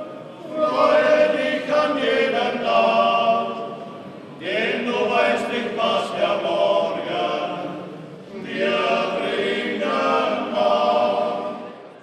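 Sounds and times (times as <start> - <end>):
men's choir singing: 0.0 - 12.0.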